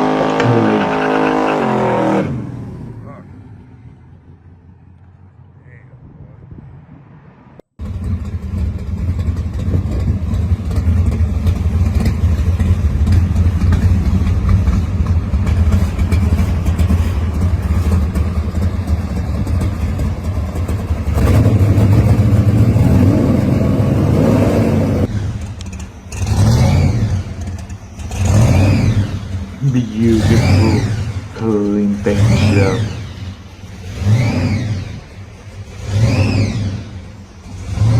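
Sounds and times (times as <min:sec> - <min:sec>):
car engine rumbling and revving: 0:00.0 - 0:37.9.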